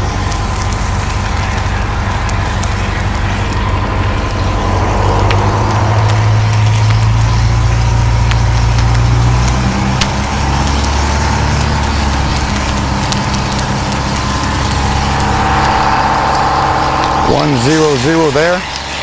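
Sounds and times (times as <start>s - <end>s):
burning car crackling and popping: 0.0s - 19.0s
engine running: 0.0s - 19.0s
hose stream hissing: 0.0s - 19.0s.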